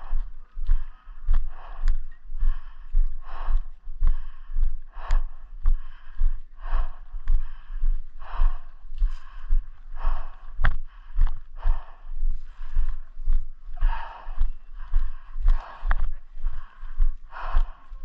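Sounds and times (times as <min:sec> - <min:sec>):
person breathing hard: 0:00.0 - 0:18.0.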